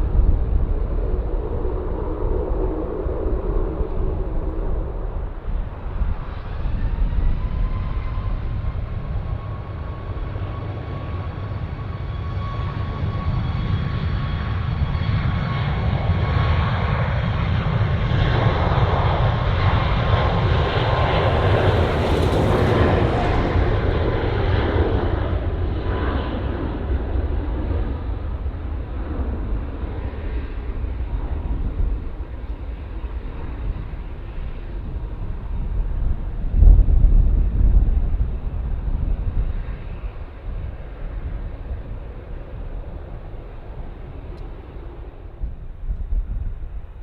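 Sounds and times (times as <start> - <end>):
jet airliner passing: 0.0 - 47.0.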